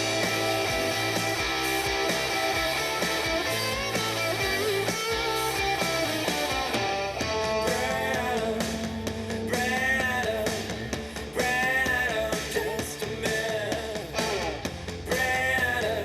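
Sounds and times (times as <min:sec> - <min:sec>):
rock music through speakers: 0:00.0 - 0:16.0.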